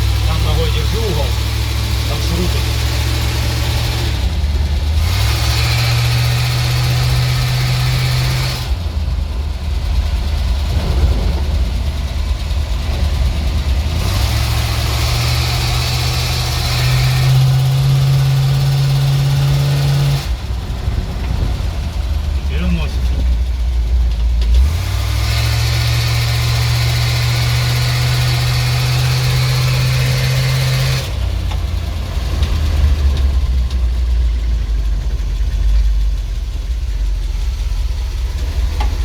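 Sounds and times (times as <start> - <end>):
truck engine revving and idling: 0.0 - 39.0.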